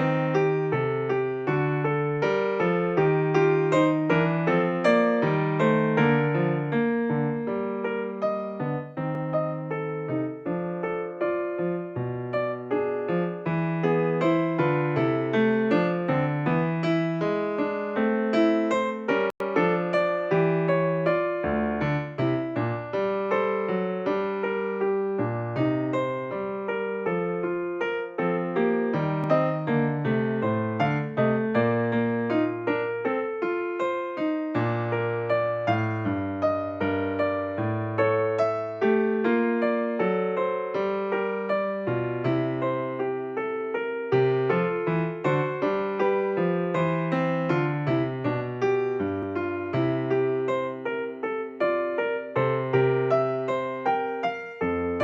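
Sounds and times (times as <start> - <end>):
electric piano music: 0.0 - 55.0.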